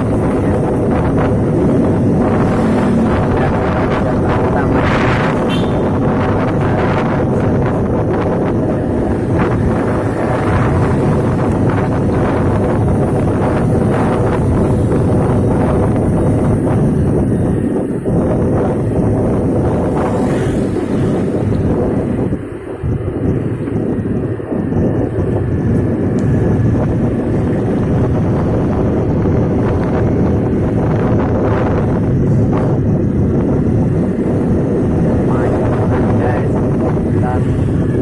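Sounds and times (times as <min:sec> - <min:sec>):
low rumble of moving vehicle: 0:00.0 - 0:38.0
wind rushing over microphone: 0:00.0 - 0:38.0.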